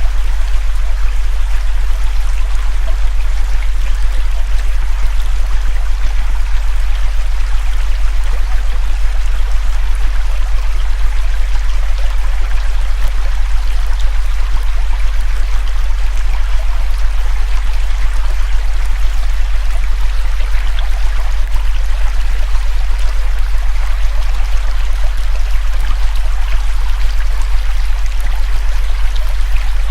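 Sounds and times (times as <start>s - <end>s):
deep synthesized tone: 0.0s - 29.9s
river flowing: 0.0s - 29.9s.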